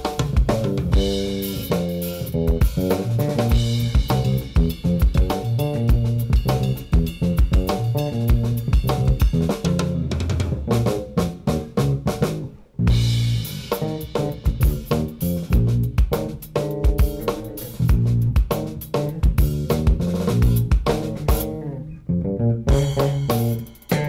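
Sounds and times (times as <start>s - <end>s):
drum and bass backing track: 0.0s - 24.0s
funky electric bass line: 0.0s - 24.0s.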